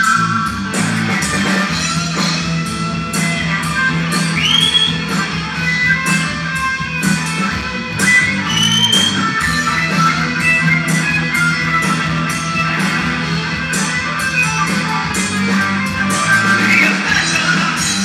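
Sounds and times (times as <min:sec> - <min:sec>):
bass guitar: 0:00.0 - 0:18.0
drums with cymbal strikes: 0:00.0 - 0:18.0
electric guitar: 0:00.0 - 0:18.0.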